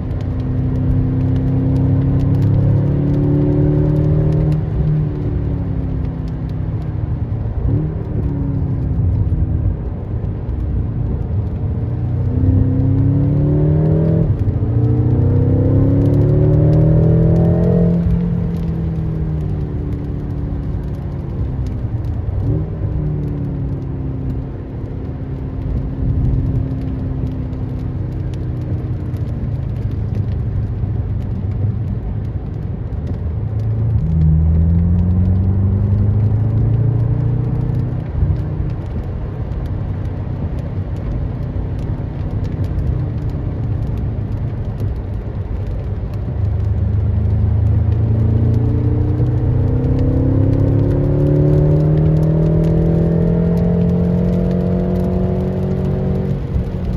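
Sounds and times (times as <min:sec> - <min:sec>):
car engine accelerating and slowing: 0:00.0 - 0:56.9.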